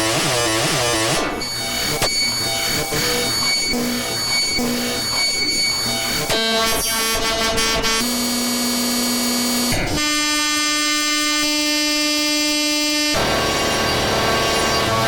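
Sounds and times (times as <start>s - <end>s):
buzzy electronic tones: 0.0s - 15.0s.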